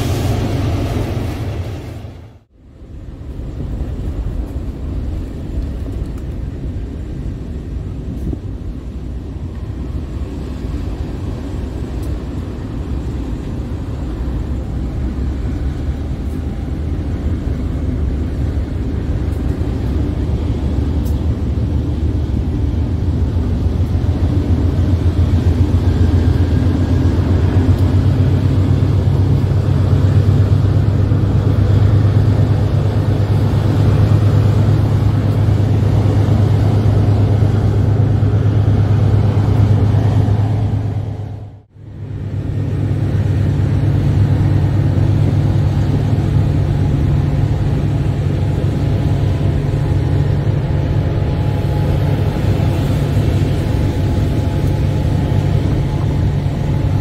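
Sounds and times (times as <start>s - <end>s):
low vehicle rumble: 0.0s - 57.0s
low drone: 8.6s - 57.0s.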